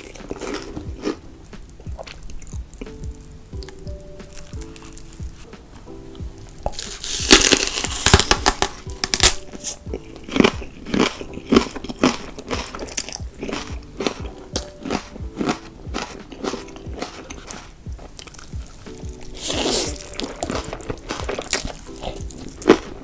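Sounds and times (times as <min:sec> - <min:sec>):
person chewing and slurping: 0:00.0 - 0:03.8, 0:06.6 - 0:23.0
background music with held notes: 0:00.0 - 0:23.0.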